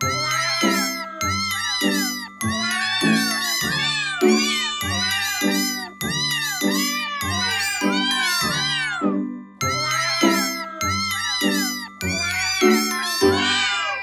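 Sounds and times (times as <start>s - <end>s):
kittens mewing: 0.0s - 14.0s.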